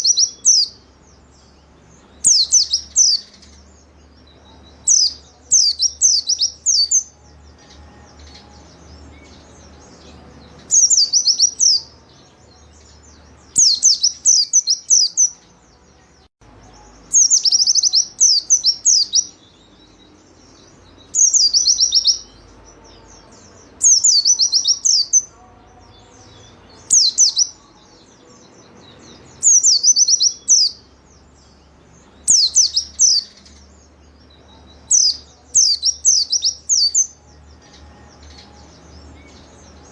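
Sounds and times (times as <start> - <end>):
bird singing rapid high chirps: 0.0 - 39.9
faint low hum: 0.0 - 39.9.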